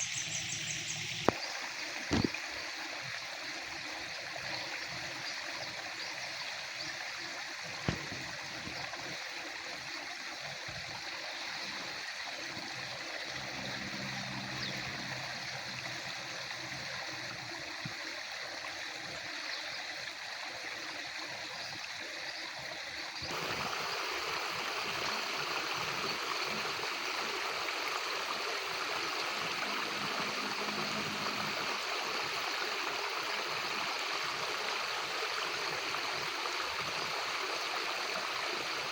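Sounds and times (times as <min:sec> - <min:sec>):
water flowing: 0:00.1 - 0:38.9.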